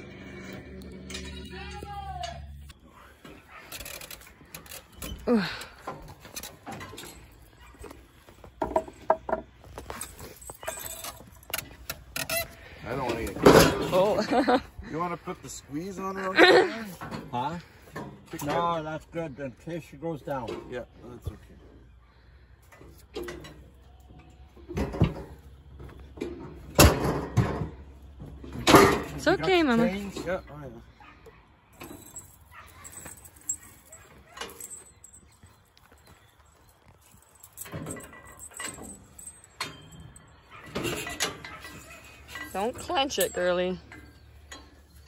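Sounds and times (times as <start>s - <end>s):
metal chute clanking and rattling: 0.0s - 21.6s, 22.6s - 30.8s, 37.5s - 45.0s.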